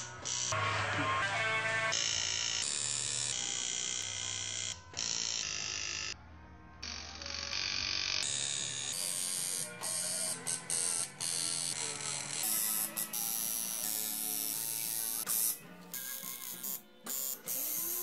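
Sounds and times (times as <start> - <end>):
tattoo machine buzzing: 0.0 - 0.6, 1.3 - 6.2, 6.8 - 18.0.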